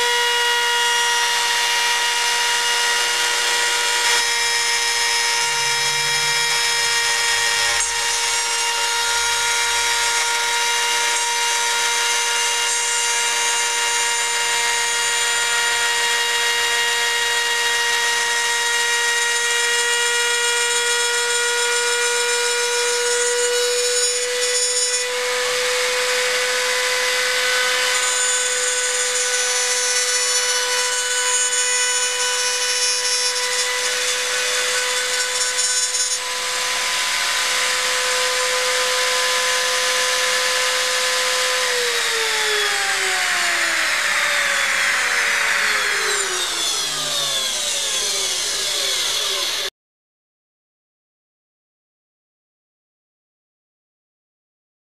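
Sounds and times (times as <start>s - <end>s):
router cutting wood: 0.0s - 49.7s.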